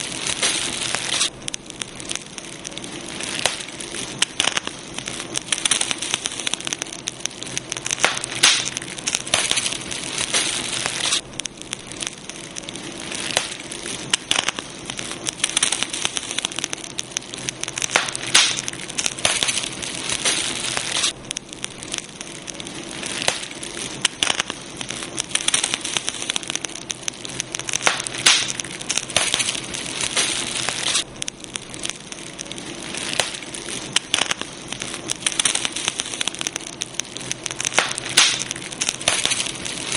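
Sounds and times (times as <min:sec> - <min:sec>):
fire hissing: 0:00.0 - 0:39.9
wood crackling and popping: 0:00.0 - 0:39.9.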